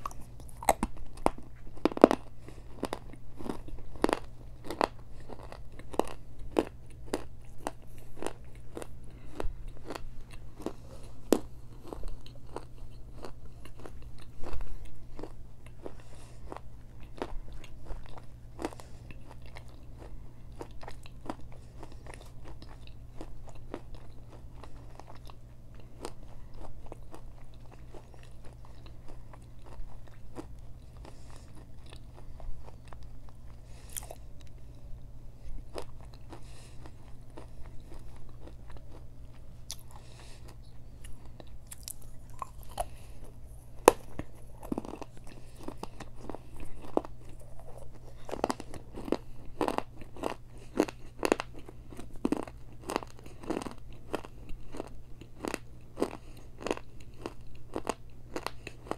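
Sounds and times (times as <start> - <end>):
crunchy chewing: 0.0 - 58.9.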